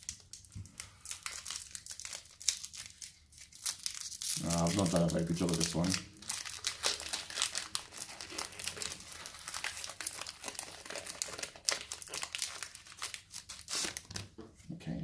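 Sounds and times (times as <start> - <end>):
foil wrapper tearing: 0.0 - 14.3
foil wrapper crinkling: 0.0 - 14.4.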